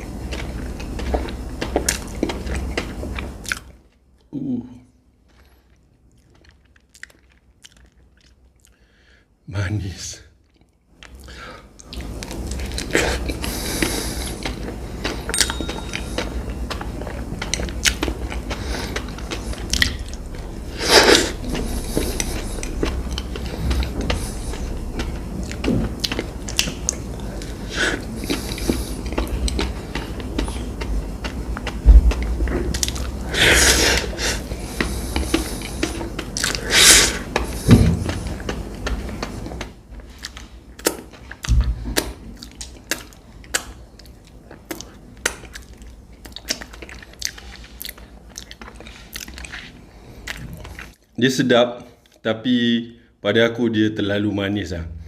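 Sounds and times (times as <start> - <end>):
crunchy bites and wet chewing: 0.0 - 4.0, 5.2 - 8.8, 10.4 - 51.1
steady low hum: 0.0 - 55.0.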